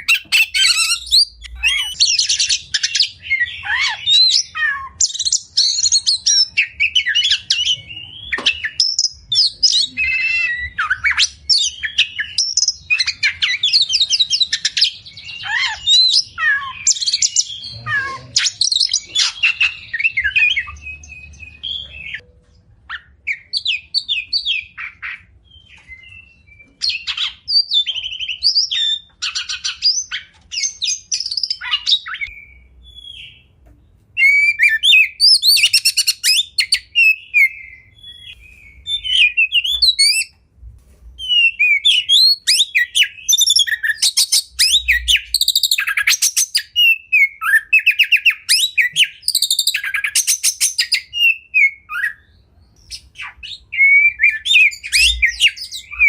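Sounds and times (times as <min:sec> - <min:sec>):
bird singing whistles and trills: 0:00.0 - 0:22.2, 0:22.9 - 0:33.5, 0:34.2 - 0:40.4, 0:41.2 - 0:56.0.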